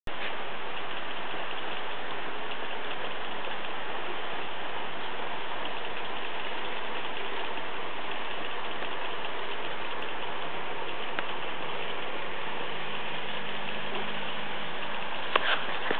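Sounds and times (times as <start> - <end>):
model trains whirring on rails: 0.1 - 15.9
faint ticking: 0.2 - 15.9.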